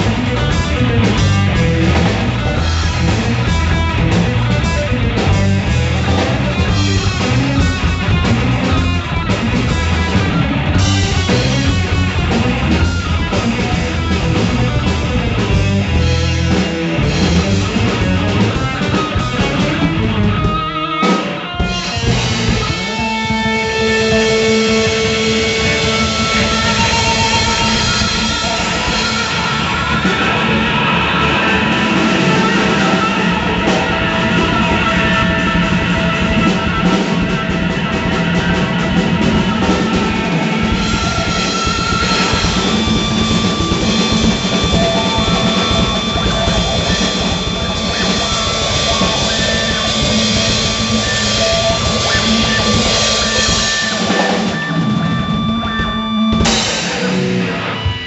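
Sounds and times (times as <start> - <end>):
bass: 0.0 - 58.0
drum kit: 0.0 - 58.0
electric guitar: 0.0 - 58.0.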